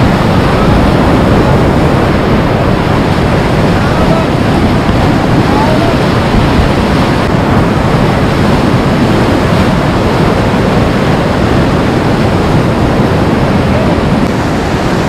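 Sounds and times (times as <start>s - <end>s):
whitewater river rushing: 0.0s - 15.0s.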